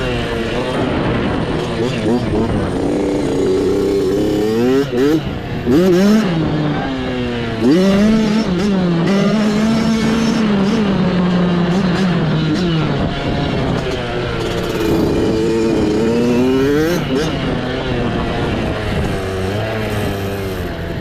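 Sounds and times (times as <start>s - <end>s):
mini bike engine racing: 0.0s - 21.0s.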